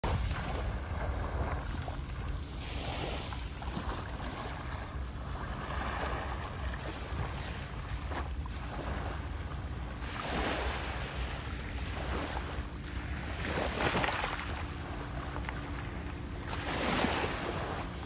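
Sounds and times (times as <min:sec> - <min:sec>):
waves lapping on shore: 0:00.0 - 0:18.0.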